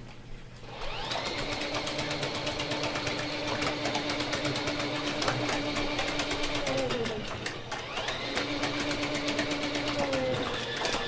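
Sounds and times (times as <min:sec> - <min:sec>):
drain-cleaning machine motor: 0:00.7 - 0:11.0.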